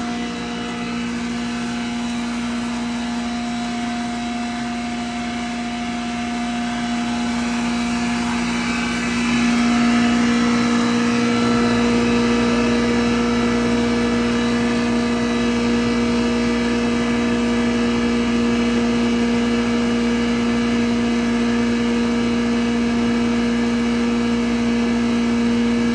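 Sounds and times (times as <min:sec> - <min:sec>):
grinder machine humming: 0:00.0 - 0:25.9.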